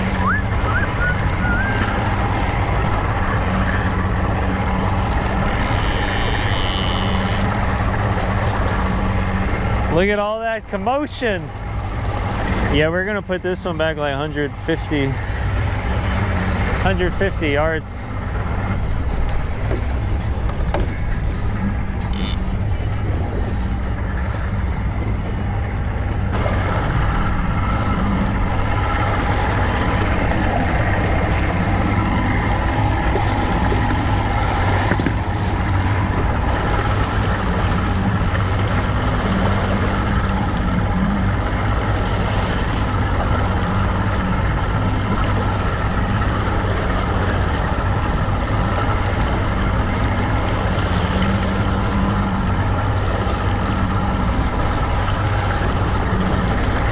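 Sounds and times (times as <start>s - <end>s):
outboard motor running: 0.0s - 56.9s
water rushing past hull: 0.0s - 56.9s.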